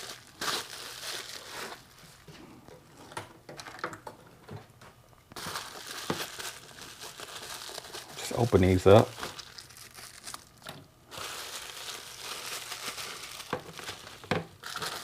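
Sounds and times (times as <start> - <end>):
packaging crinkling and rustling: 0.0 - 4.0, 5.3 - 15.0.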